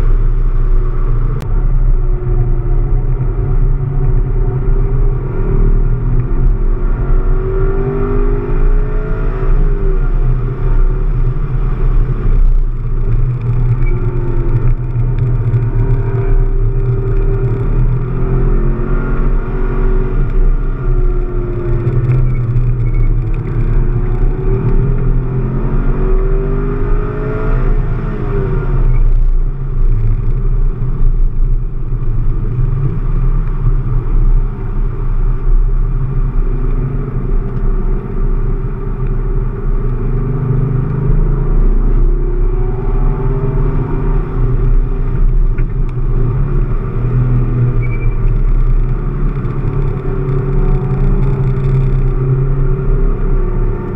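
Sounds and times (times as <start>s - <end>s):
car engine accelerating: 0.0s - 53.9s.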